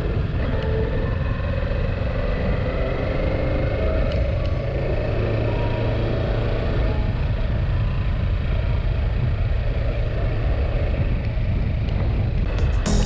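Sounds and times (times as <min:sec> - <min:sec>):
road and wind noise: 0:00.0 - 0:12.5.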